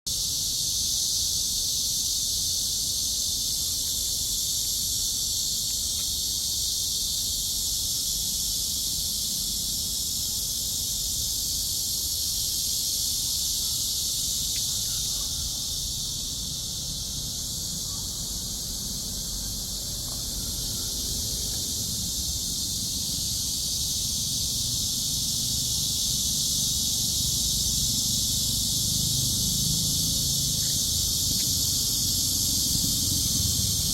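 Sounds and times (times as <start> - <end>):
cicadas buzzing: 0.1 - 33.9.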